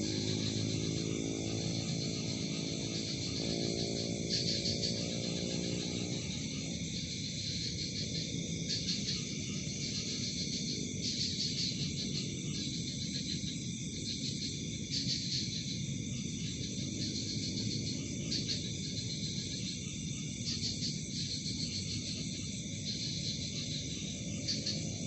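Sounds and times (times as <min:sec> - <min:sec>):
night insects chirping: 0:00.0 - 0:25.0.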